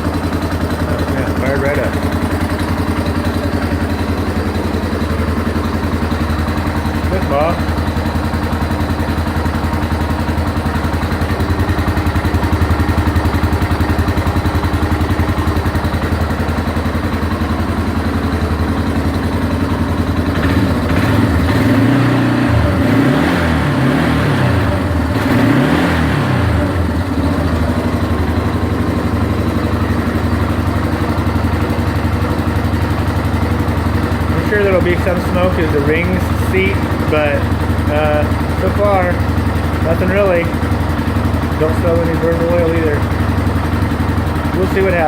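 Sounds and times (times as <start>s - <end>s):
engine idling and revving: 0.0s - 45.0s.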